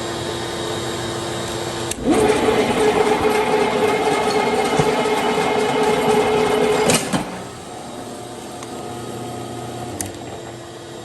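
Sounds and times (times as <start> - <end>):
floor grinder motor hum: 0.0 - 11.0.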